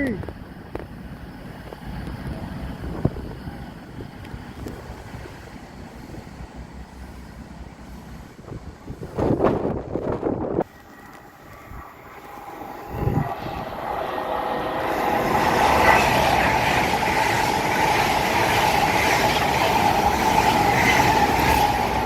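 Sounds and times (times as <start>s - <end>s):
train rushing past with whine: 0.0s - 22.0s.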